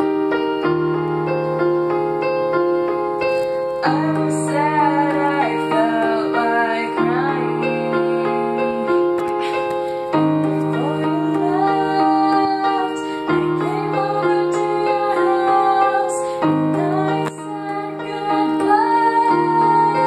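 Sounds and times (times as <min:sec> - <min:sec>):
electronic keyboard chords: 0:00.0 - 0:20.0
woman singing a slow ballad: 0:03.8 - 0:20.0.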